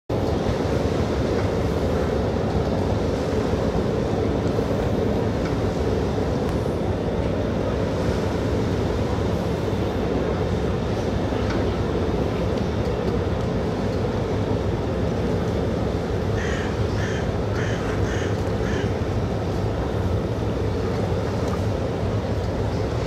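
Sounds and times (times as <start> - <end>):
boat engine drone: 0.1 - 23.0
water wash: 0.1 - 23.0.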